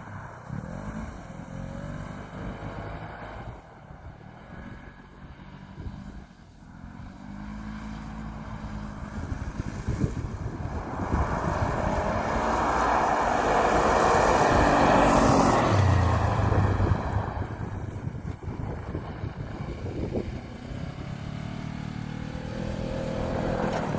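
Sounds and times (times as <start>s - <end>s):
vehicle engine passing by: 0.0s - 23.9s.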